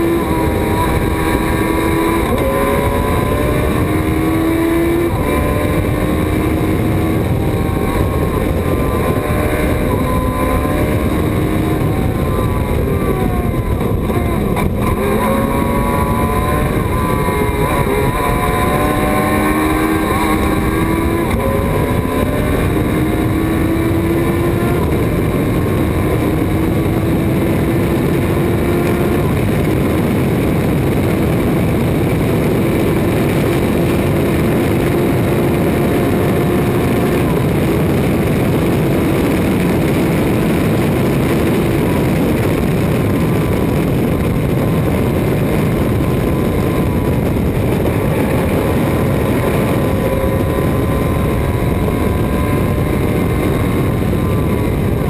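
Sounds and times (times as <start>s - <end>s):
race car engine running hard: 0.0s - 55.0s
wind and road noise: 0.0s - 55.0s.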